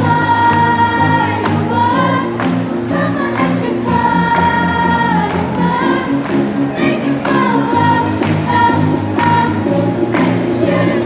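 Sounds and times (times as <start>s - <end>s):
backing track with steady beat: 0.0s - 11.0s
children's choir singing: 0.0s - 11.0s.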